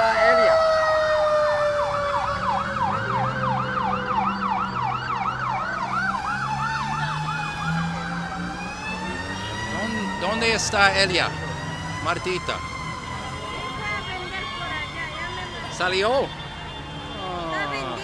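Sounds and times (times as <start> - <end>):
steady siren tone: 0.0 - 18.0
yelping siren: 0.0 - 18.0.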